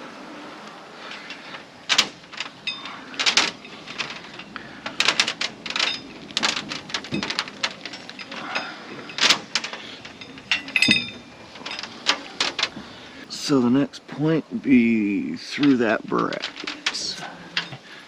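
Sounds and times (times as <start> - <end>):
wire handling clicks and rubs: 1.1 - 13.3, 15.6 - 18.0.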